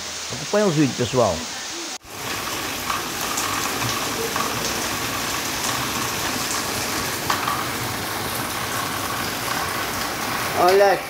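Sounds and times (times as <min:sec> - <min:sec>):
heavy rain falling: 0:00.0 - 0:11.0
rain drop splashes: 0:02.0 - 0:11.0.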